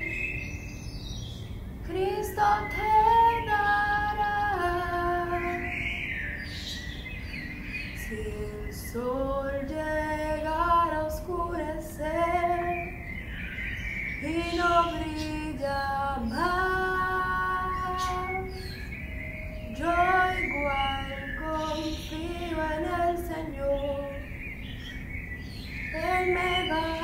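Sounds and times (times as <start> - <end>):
woman singing slow song: 0.0 - 0.6, 1.8 - 6.4, 7.9 - 13.2, 14.2 - 24.4, 25.9 - 27.0.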